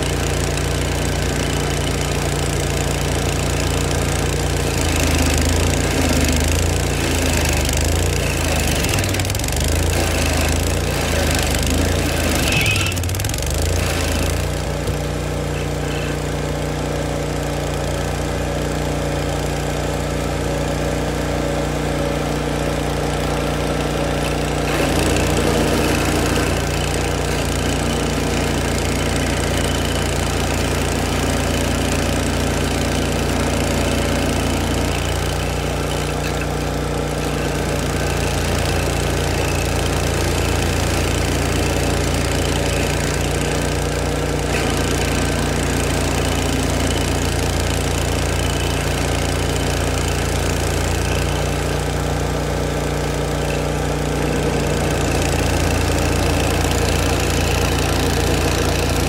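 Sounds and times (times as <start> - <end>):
stump grinder engine running: 0.0 - 59.0.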